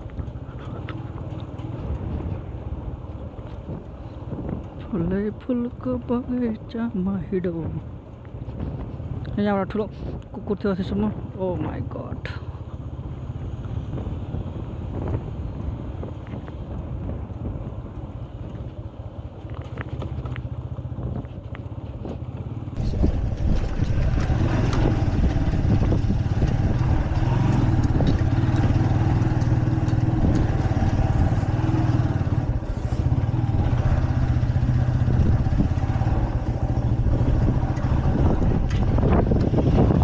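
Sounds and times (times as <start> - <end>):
wind noise on microphone: 0.0 - 12.1, 13.0 - 40.0
motorcycle engine running: 0.0 - 40.0.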